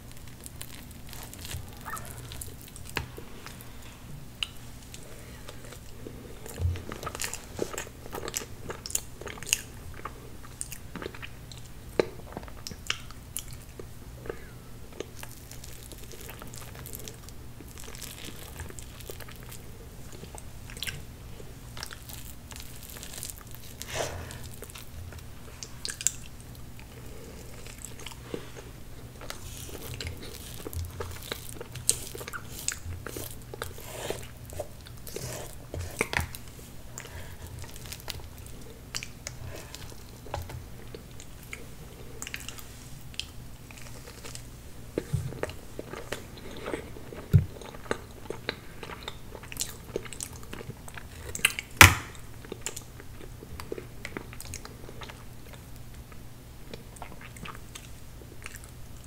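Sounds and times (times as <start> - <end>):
chewing and mouth sounds: 0.0 - 59.0.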